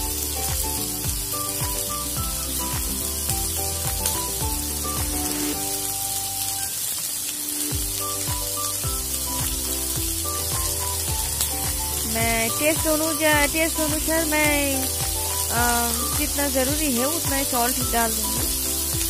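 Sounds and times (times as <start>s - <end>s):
background music with beat: 0.0s - 6.8s, 7.6s - 19.0s
vegetables sizzling in hot oil: 0.0s - 19.0s.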